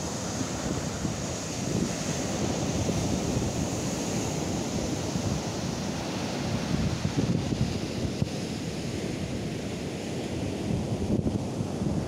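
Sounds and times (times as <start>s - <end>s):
surf breaking on a sandy beach: 0.0s - 12.0s
wind rumbling on microphone: 0.0s - 12.0s.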